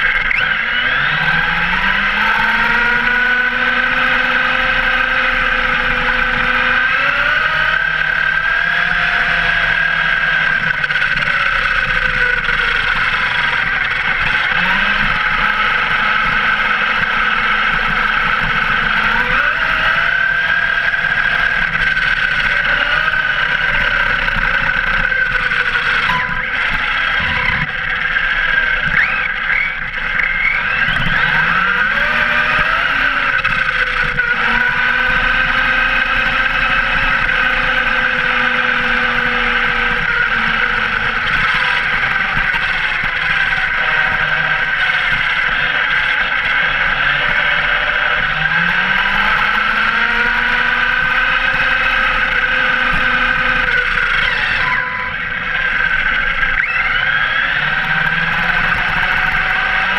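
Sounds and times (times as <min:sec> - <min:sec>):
toy truck motor whining: 0:00.0 - 0:59.9
tyre and road noise: 0:00.0 - 0:59.9.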